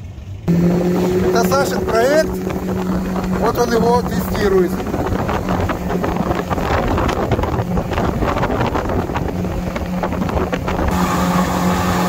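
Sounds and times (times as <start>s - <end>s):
outboard engine drone: 0.0s - 12.0s
water rushing along hull: 0.5s - 12.0s
wind buffeting microphone: 0.5s - 12.0s.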